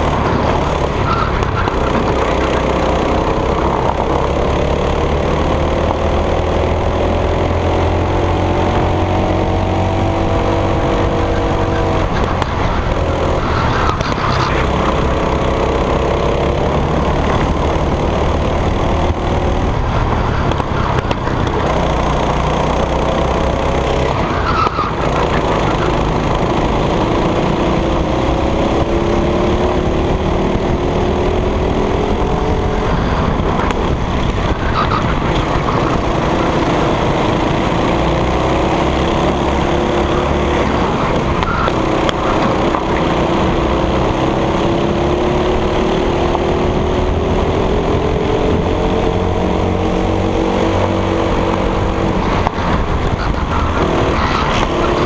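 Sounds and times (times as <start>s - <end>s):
go-kart engine racing: 0.0s - 55.0s
rush of wind and road noise: 0.0s - 55.0s.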